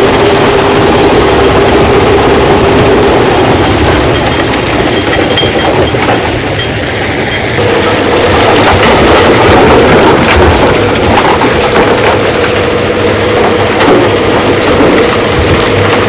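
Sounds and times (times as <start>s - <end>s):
rock-crushing machinery running: 0.0s - 16.0s
mechanical knocks: 1.5s - 16.0s.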